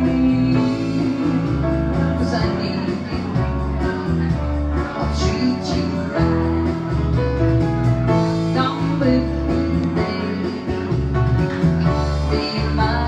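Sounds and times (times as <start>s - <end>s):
woman singing: 0.0s - 6.9s, 8.2s - 11.0s, 11.8s - 13.0s
piano chords: 0.0s - 13.0s.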